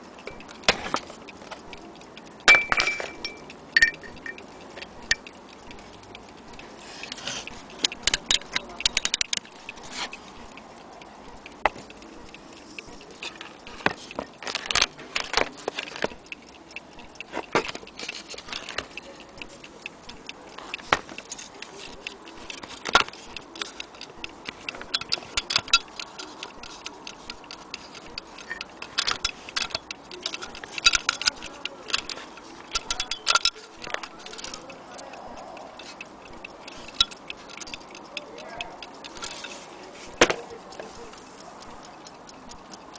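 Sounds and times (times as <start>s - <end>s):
clock mechanism clicking: 0.0s - 42.9s.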